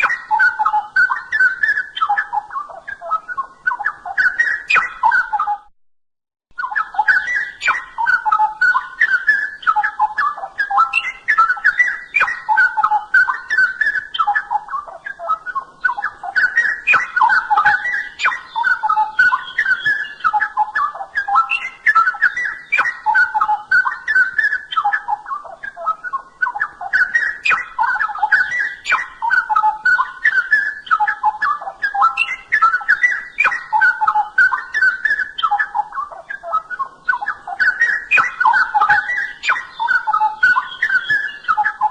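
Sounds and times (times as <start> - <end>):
bird singing whistled warbling: 0.0 - 5.7, 6.6 - 41.9.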